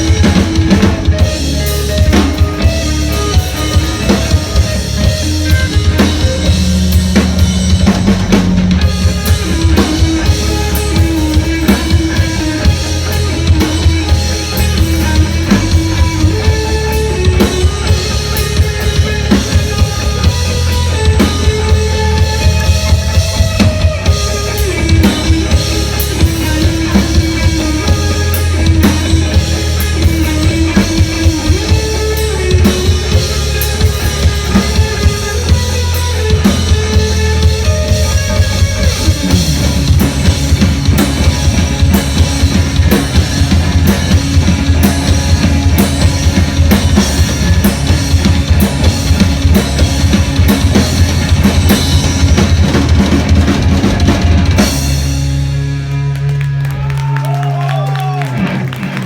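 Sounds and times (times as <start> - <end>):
loud live band music: 0.0 - 59.0.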